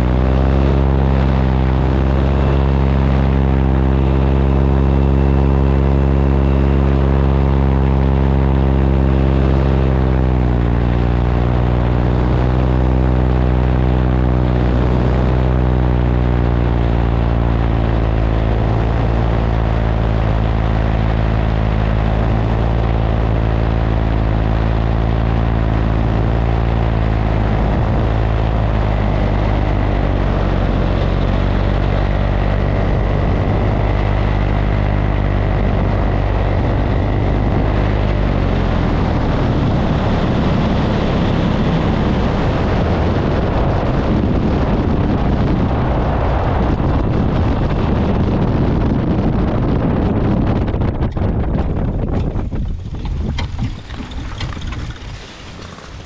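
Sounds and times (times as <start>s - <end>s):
paramotor engine and propeller: 0.0s - 56.0s
wind rushing over microphone: 0.0s - 56.0s.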